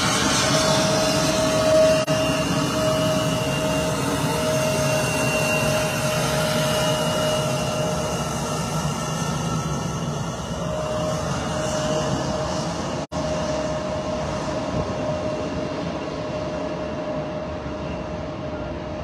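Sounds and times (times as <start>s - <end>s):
jet engines whining at taxi: 0.0s - 19.0s.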